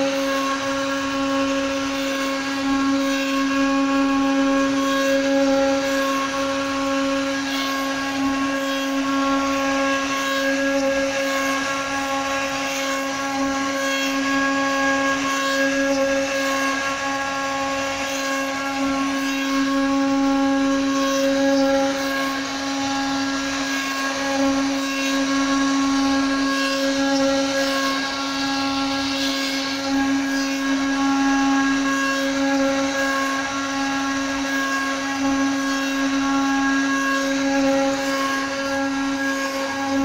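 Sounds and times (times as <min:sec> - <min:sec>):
router spindle motor whining: 0:00.0 - 0:40.0.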